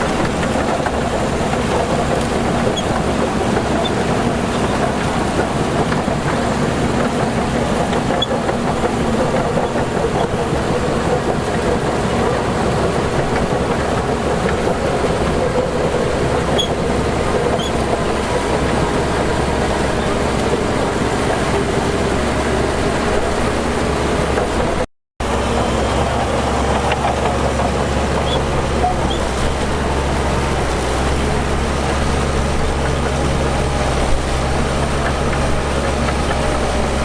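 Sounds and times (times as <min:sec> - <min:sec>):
diesel engine of heavy machinery: 0:00.0 - 0:37.0.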